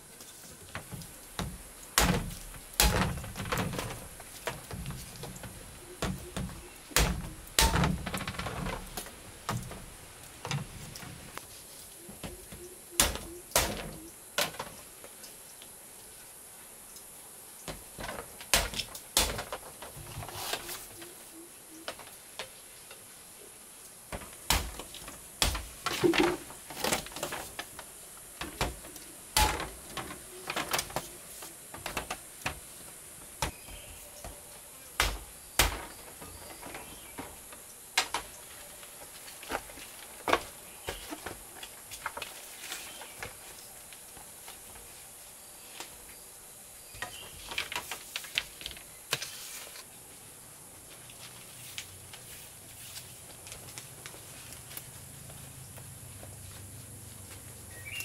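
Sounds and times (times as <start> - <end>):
faint high hiss: 0.0 - 58.0.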